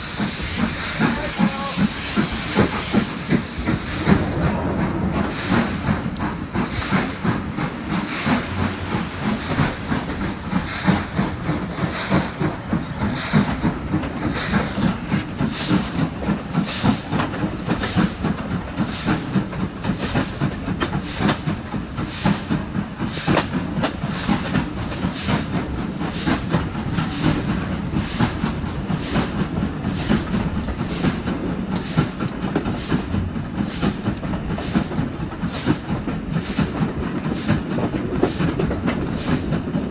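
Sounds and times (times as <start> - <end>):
steam hiss: 0.0 - 39.8
steam locomotive chuffing: 0.0 - 39.9
wheel and rail noise: 0.0 - 39.9.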